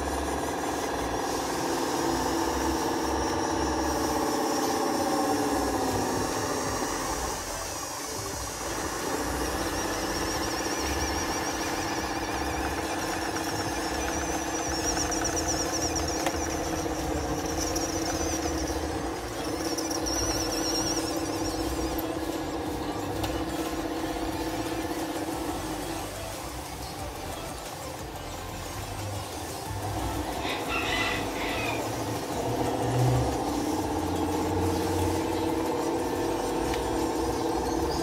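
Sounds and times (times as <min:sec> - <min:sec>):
toy electric motors whining: 0:00.0 - 0:38.0.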